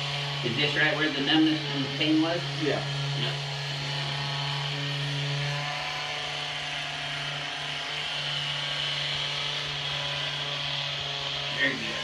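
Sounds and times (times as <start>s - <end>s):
vibration massager motor hum: 0.0s - 12.0s.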